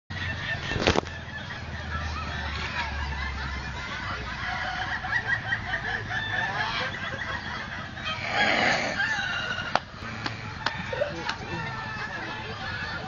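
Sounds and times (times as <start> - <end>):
roosters crowing: 0.1 - 13.0.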